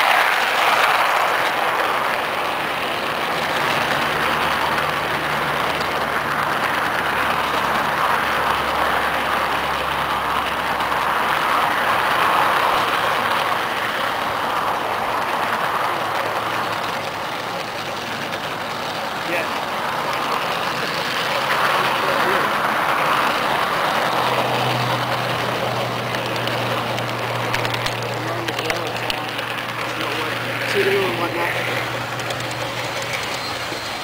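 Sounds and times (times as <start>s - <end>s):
train wheels rolling on rails: 0.0s - 34.0s.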